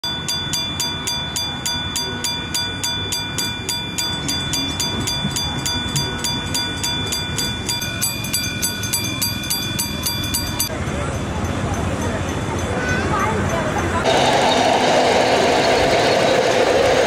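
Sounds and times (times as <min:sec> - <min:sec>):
level-crossing bell ringing: 0:00.0 - 0:14.6.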